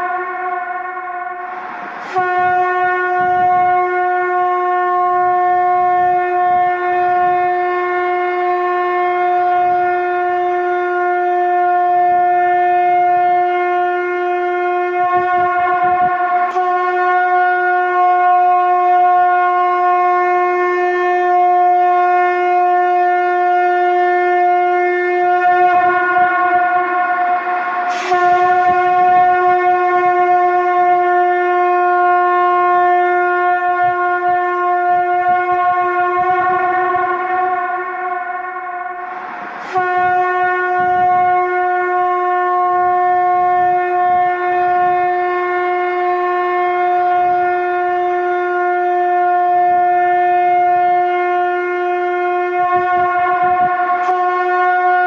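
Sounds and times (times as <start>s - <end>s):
conch shell blasts: 0.0s - 55.0s.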